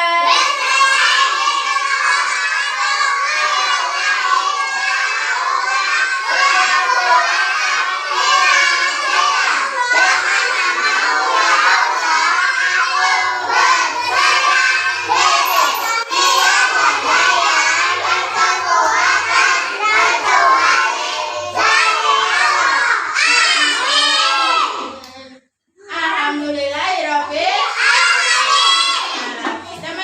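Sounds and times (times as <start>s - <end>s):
children singing together: 0.0s - 25.1s, 27.6s - 29.9s.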